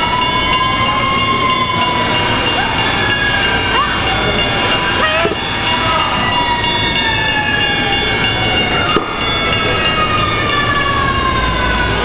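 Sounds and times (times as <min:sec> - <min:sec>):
high whining tones: 0:00.0 - 0:12.0
model train rumbling: 0:00.0 - 0:12.0.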